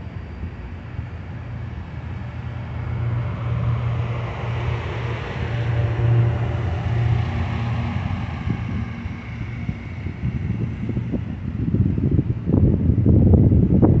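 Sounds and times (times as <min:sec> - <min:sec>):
passenger train rumbling past: 0:00.0 - 0:14.0
wind buffeting microphone: 0:00.0 - 0:14.0.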